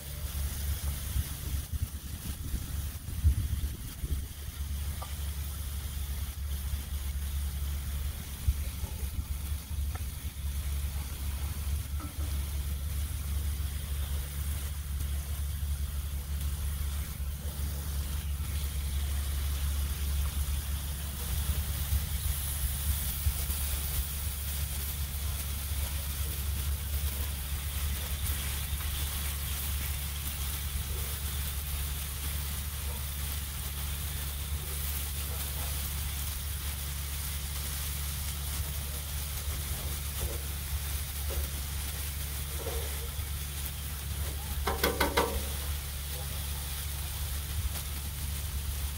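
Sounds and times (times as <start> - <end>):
meat sizzling on griddle: 0.0 - 48.9.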